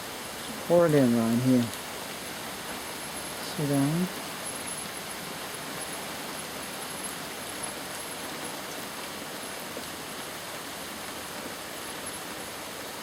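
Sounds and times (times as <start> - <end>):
pouring rain: 0.0 - 13.0.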